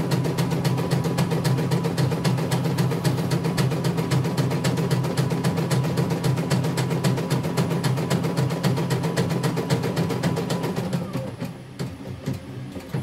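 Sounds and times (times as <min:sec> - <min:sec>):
embroidery machine stitching clatter: 0:00.0 - 0:13.0.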